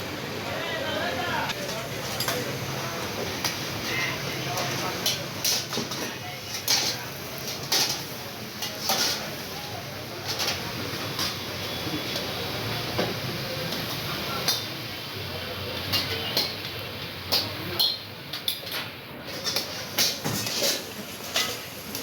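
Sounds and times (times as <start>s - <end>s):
steady background noise: 0.0s - 22.0s
metal utensils clanking on pans: 1.5s - 14.8s, 15.7s - 22.0s.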